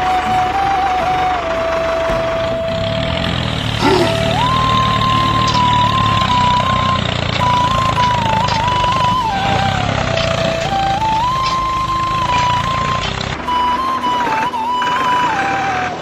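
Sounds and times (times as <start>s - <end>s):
background music melody: 0.0s - 16.0s
small tractor engine running: 0.0s - 16.0s.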